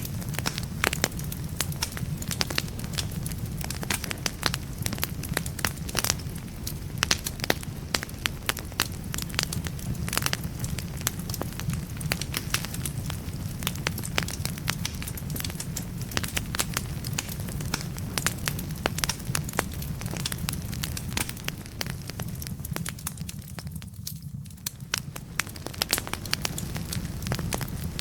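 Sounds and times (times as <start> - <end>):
flames rumbling: 0.0 - 28.0
wood crackling and popping: 0.0 - 28.0.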